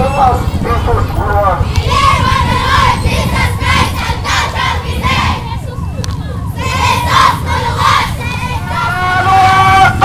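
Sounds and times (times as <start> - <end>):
motorbikes rumbling: 0.0 - 10.0
crowd shouting and cheering: 1.7 - 10.0.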